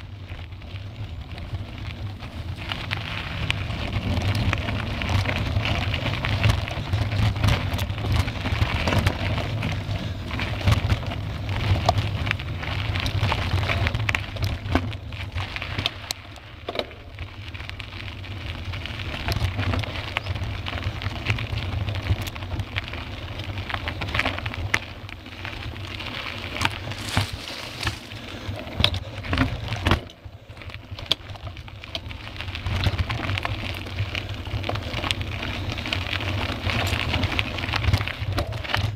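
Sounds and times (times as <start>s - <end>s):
bike rattling over trail: 0.0s - 38.9s
low rumble of vibration and wind: 0.0s - 38.9s
tyre noise: 0.4s - 38.9s.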